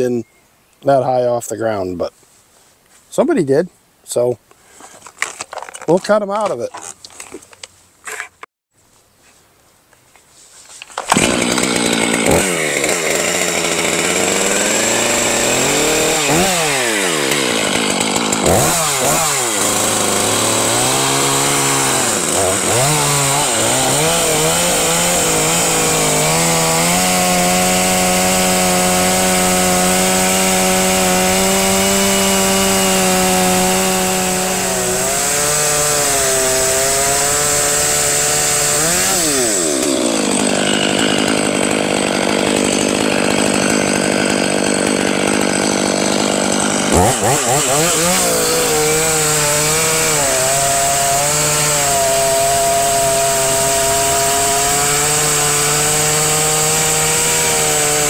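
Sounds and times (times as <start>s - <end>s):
chainsaw revving and cutting log: 11.0s - 58.0s.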